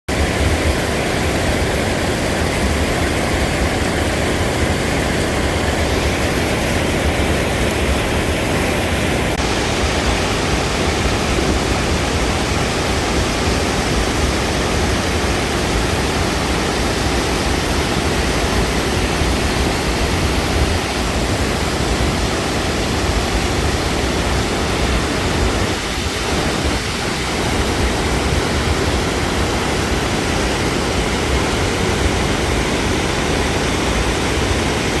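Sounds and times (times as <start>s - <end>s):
waterfall rushing: 0.1s - 35.0s.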